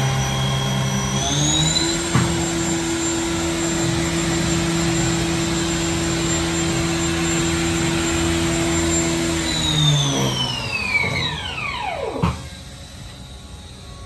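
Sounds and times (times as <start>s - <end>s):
machine spindle high whine: 0.0s - 14.0s.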